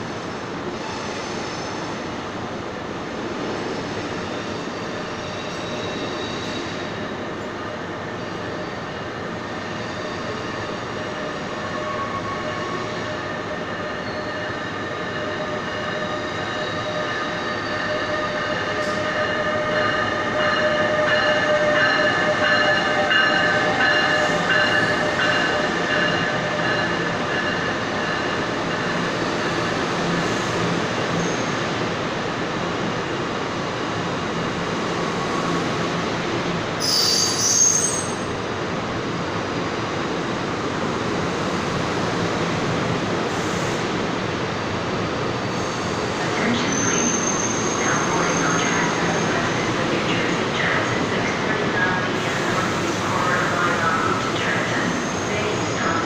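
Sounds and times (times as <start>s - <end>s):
multi-tone train whine: 0.0s - 56.0s
train rumbling: 0.0s - 56.0s.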